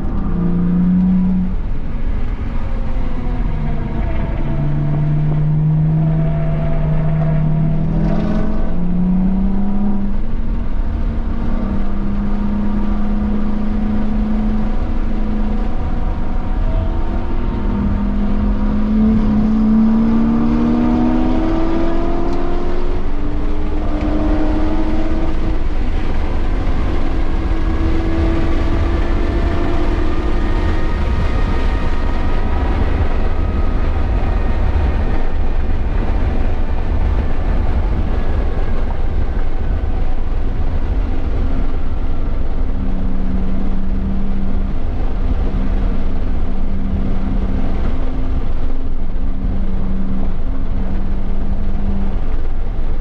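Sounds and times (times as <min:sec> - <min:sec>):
car engine revving at speed: 0:00.0 - 0:53.0
wind and road noise rumble: 0:00.0 - 0:53.0.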